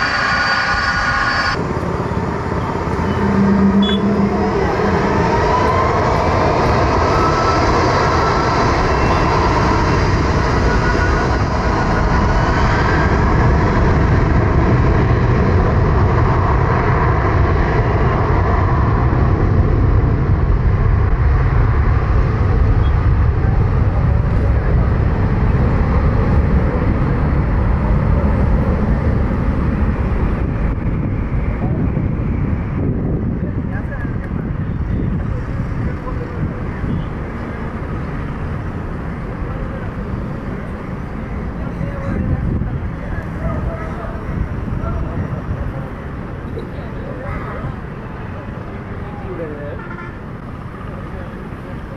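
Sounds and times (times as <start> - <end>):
jet engine rumble: 0.0 - 51.9
jet engine whine: 0.0 - 51.9.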